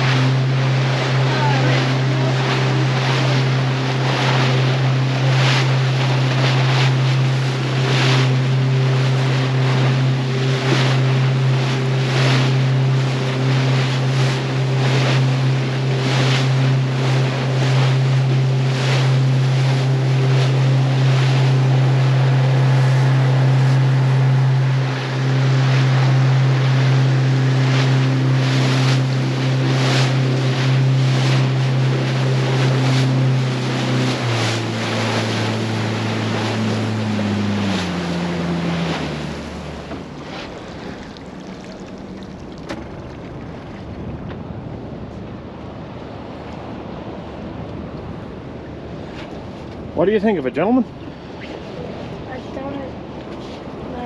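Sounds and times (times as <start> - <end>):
bow slapping through waves: 0.0 - 49.9
boat motor running: 0.0 - 54.0
water rushing along hull: 0.0 - 54.0
wind buffeting microphone: 0.0 - 54.0.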